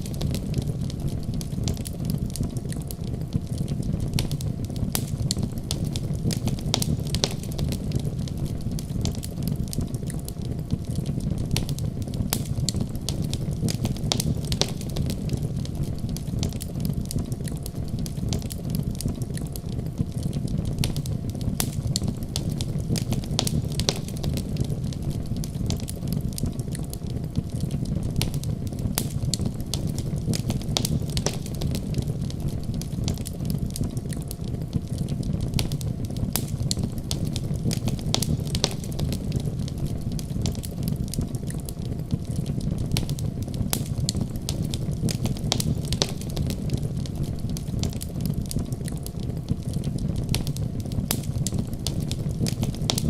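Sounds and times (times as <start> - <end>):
low rumble of fire: 0.0 - 53.0
wood fire crackling and popping: 0.0 - 53.0.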